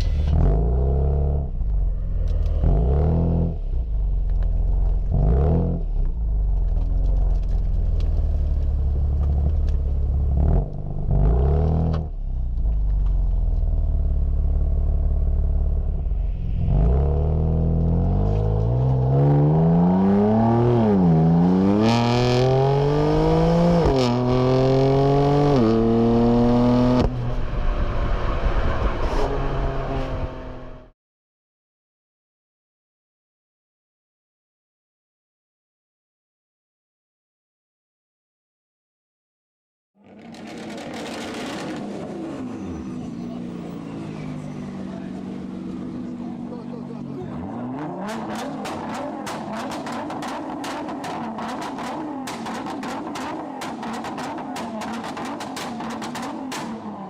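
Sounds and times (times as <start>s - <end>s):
car engine and loud exhaust: 0.0s - 30.9s, 40.0s - 57.0s.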